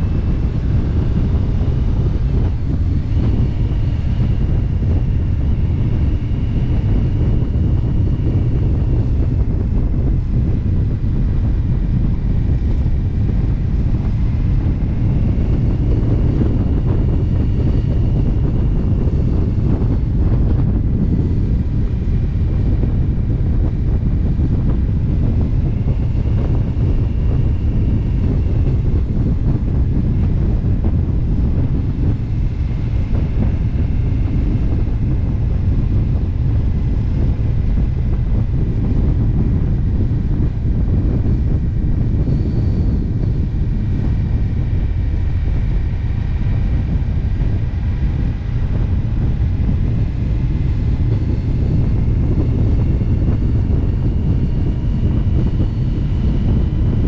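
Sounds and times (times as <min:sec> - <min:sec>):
motorcycle engine rumble: 0:00.0 - 0:56.9
wind noise on microphone: 0:00.0 - 0:57.0.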